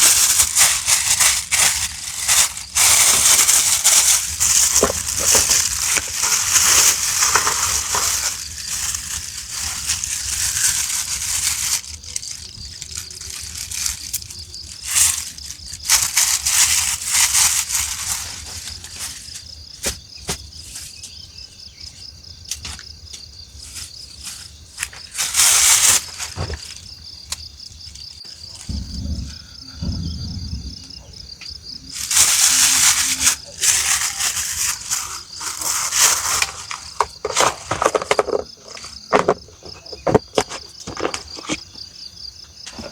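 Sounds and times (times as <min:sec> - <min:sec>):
crunching and rustling: 0:00.0 - 0:21.2, 0:21.8 - 0:42.9
pulsing insect trill: 0:00.0 - 0:22.4, 0:23.1 - 0:37.3.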